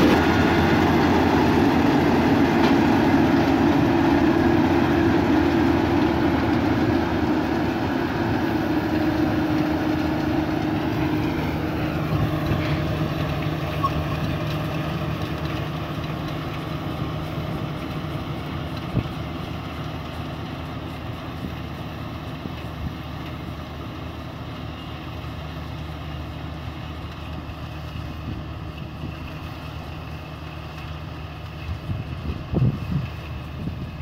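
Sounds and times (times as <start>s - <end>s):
combine harvester engine drone: 0.0s - 34.0s.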